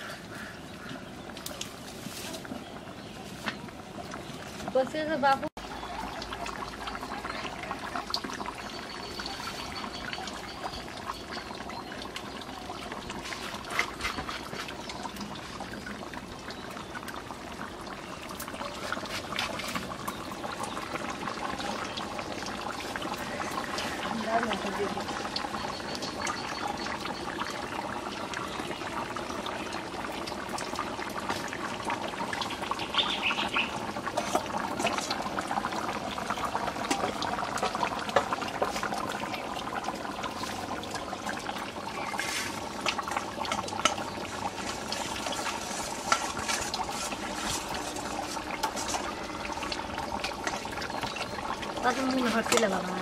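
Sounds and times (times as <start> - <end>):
curry bubbling: 0.0 - 53.0.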